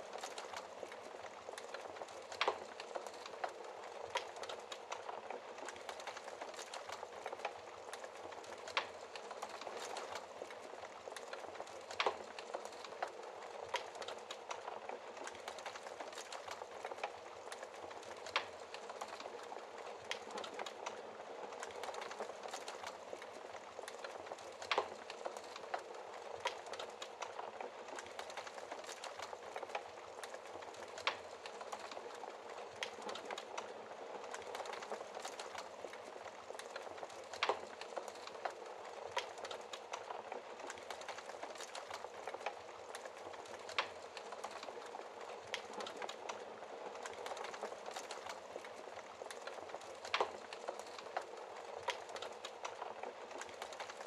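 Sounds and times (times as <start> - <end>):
fire popping: 0.0 - 54.0
log fire crackling: 0.0 - 54.0.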